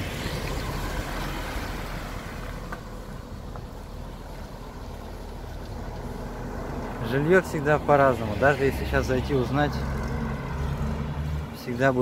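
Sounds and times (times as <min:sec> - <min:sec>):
vehicle passing: 0:00.0 - 0:03.0, 0:04.5 - 0:12.0.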